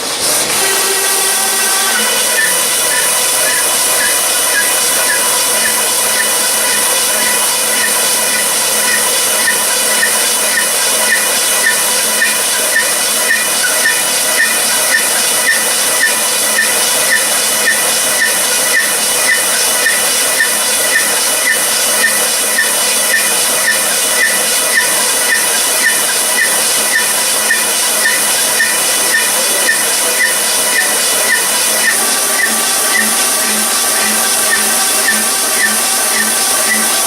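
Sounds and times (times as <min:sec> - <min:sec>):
machine hissing with steady tones: 0:00.0 - 0:37.0.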